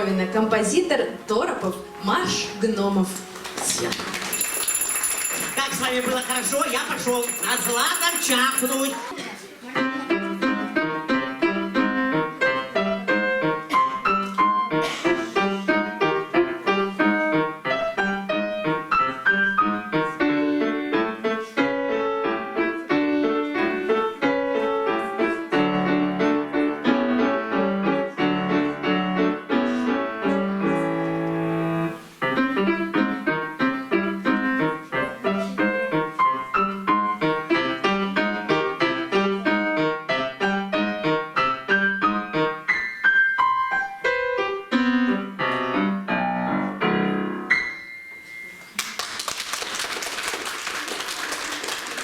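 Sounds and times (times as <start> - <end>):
piano duet playing a march: 0.0 - 7.4, 9.8 - 48.2.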